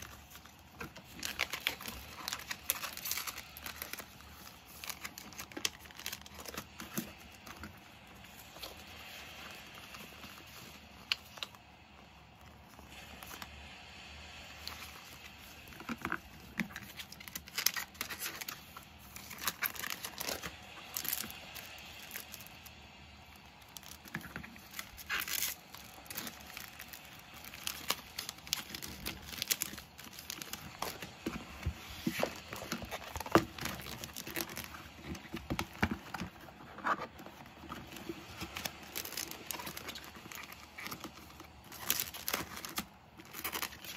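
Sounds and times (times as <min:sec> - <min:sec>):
paper and plastic rustling: 0:00.0 - 0:13.7, 0:14.3 - 0:43.9
plastic binder pages turning: 0:00.0 - 0:13.7, 0:14.3 - 0:43.9.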